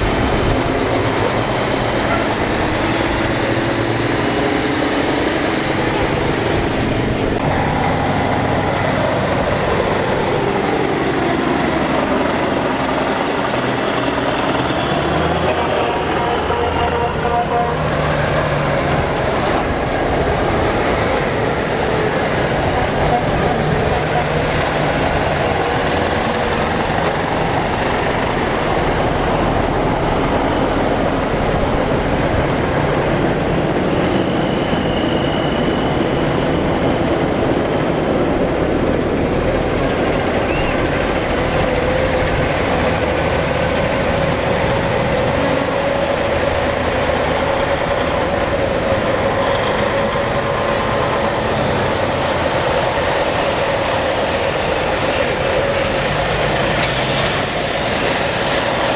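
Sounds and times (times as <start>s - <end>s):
diesel trucks droning past: 0.0s - 58.9s.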